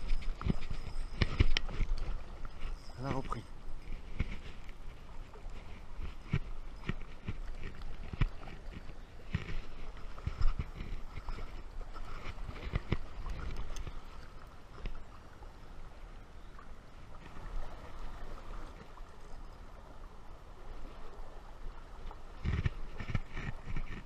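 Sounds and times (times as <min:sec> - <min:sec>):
river flowing: 0:00.0 - 0:24.0.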